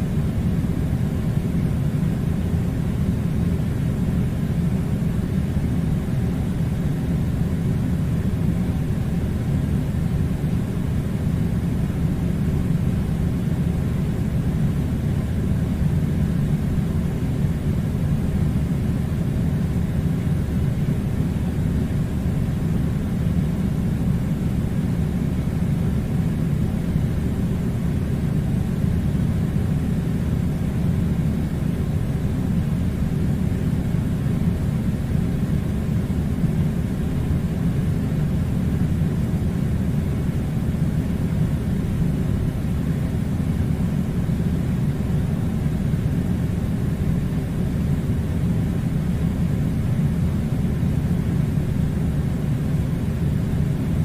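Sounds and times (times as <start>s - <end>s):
air conditioner running: 0.0s - 54.0s.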